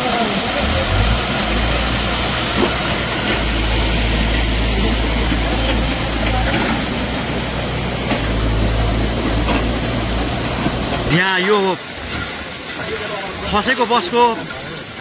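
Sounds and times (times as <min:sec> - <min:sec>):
floodwater rushing over rocks: 0:00.0 - 0:15.0.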